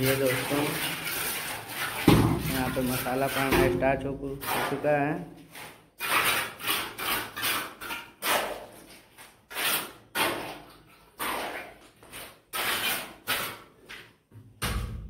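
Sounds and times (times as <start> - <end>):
hoe scraping wet cement: 0.0 - 14.1.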